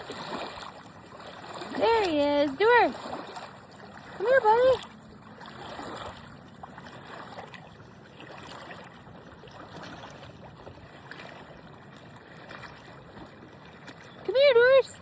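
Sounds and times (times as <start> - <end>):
small splashes: 0.0 - 15.0
water lapping at shore: 0.0 - 15.0.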